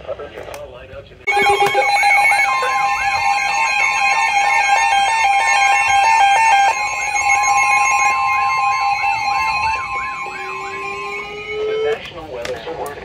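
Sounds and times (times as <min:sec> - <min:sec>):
repeated beeps: 0:01.3 - 0:12.0
steady high alert tone: 0:01.3 - 0:12.0
warbling siren tone: 0:01.3 - 0:12.0.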